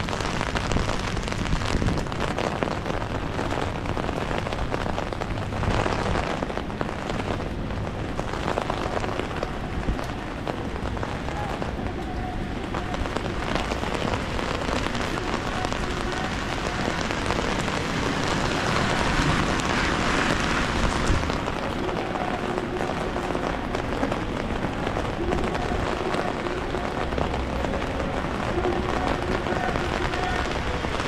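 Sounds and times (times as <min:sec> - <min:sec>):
rain on a street: 0:00.0 - 0:31.0.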